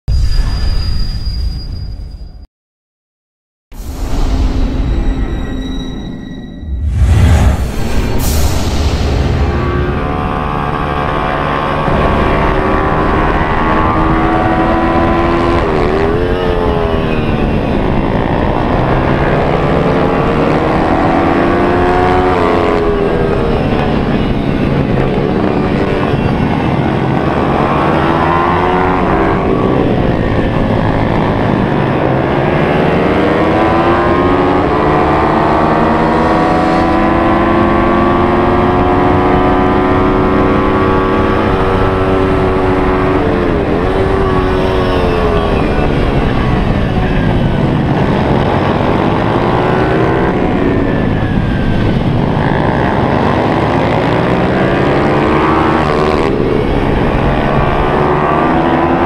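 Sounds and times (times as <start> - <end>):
single-cylinder engine revving: 10.0 - 59.0.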